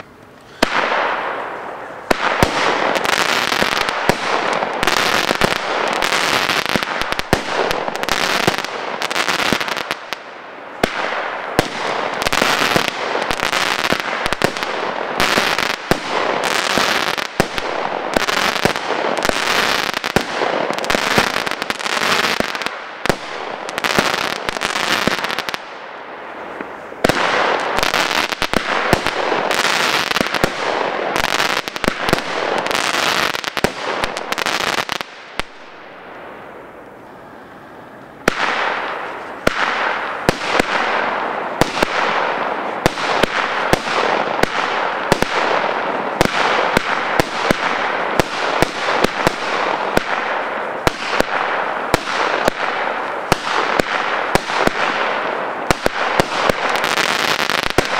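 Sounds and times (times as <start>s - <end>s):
crackling firework stars: 0.0s - 57.9s
firework shots firing: 0.6s - 35.8s, 38.2s - 57.9s.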